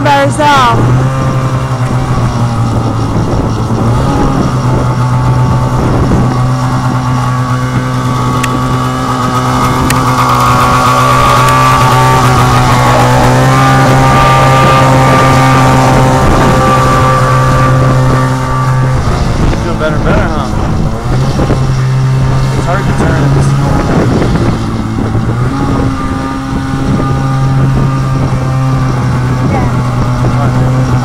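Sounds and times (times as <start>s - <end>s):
snowmobile engine droning: 0.0s - 31.0s.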